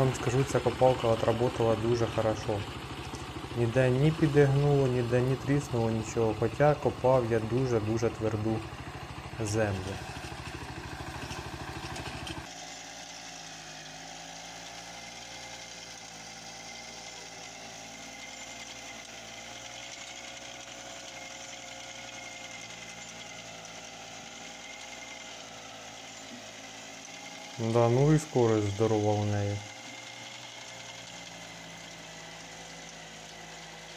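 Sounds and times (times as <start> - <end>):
diesel engine running under load: 0.0 - 33.9
engine running with high whine: 0.0 - 33.9.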